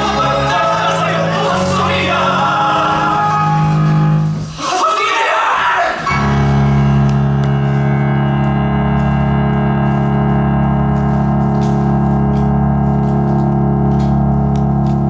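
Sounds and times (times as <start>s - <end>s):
band holding sustained chord: 0.0s - 4.4s, 6.2s - 14.8s.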